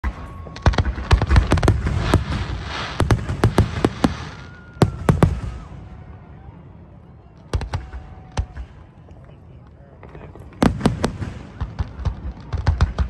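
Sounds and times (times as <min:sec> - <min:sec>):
fireworks crackling: 0:00.0 - 0:05.9, 0:07.4 - 0:13.0
fireworks bangs: 0:00.0 - 0:06.1, 0:07.5 - 0:09.1, 0:10.0 - 0:13.0.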